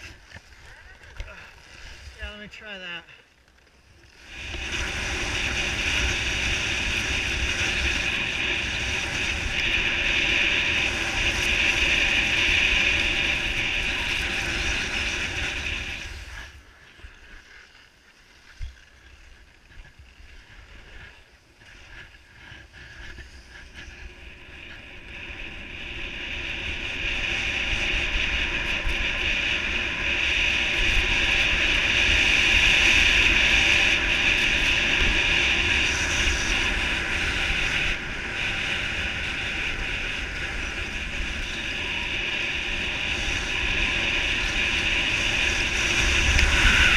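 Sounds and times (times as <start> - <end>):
wind rushing over microphone: 4.2 - 16.6, 19.8 - 46.9.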